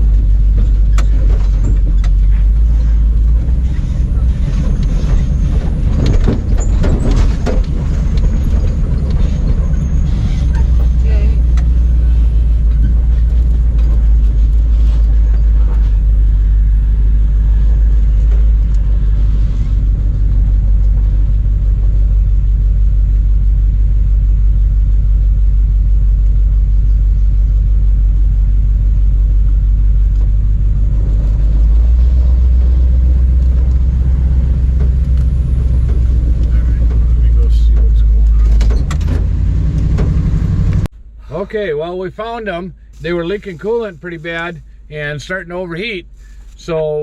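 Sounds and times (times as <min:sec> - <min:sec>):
truck engine low rumble: 0:00.0 - 0:47.0.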